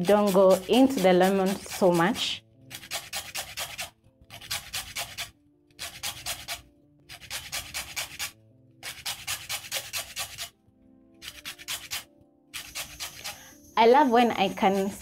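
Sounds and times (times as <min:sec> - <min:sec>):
lemon scraping on grater: 0:00.0 - 0:10.5, 0:11.2 - 0:13.5, 0:14.1 - 0:15.0
soft background music: 0:00.0 - 0:15.0.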